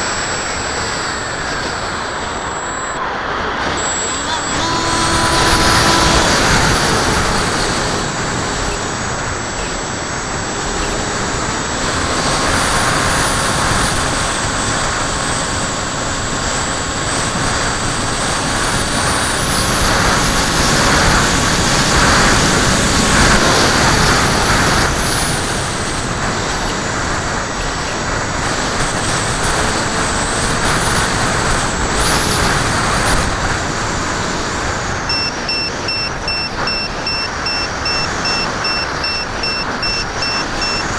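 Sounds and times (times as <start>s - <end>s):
electric motor whine: 0.0s - 40.9s
wind rushing over microphone: 0.0s - 40.9s.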